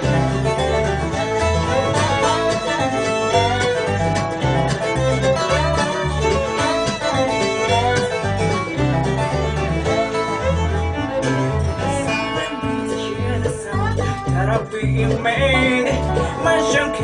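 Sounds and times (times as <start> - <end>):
banjo: 0.0 - 17.0
fiddle: 0.0 - 17.0
guitar: 0.0 - 17.0
upright bass walking beat: 0.0 - 17.0.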